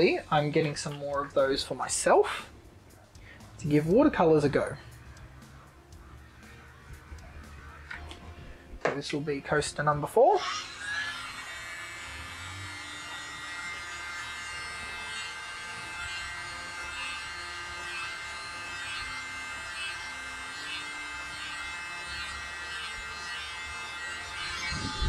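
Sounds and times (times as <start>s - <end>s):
electric air blower whining: 3.2s - 25.0s.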